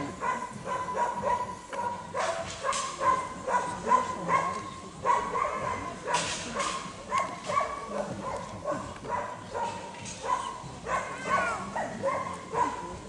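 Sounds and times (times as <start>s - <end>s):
dog yapping: 0.2s - 12.9s.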